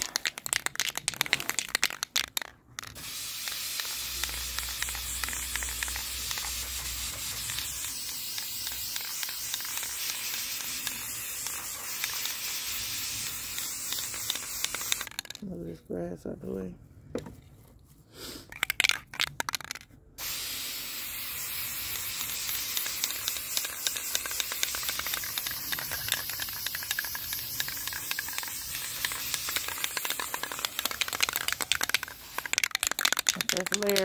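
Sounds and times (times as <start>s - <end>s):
spray paint hissing: 0.0s - 15.3s, 18.5s - 34.0s.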